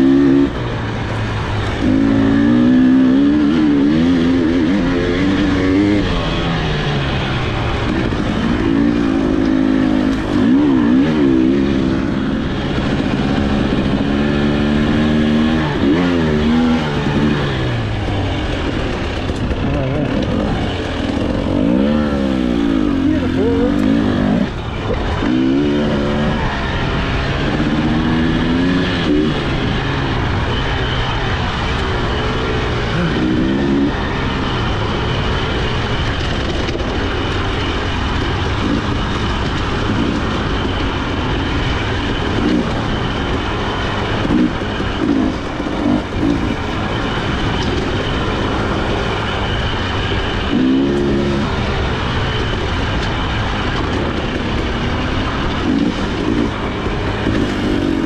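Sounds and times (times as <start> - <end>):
dirt bike engine revving: 0.0 - 58.0
steady rushing noise: 0.0 - 58.0.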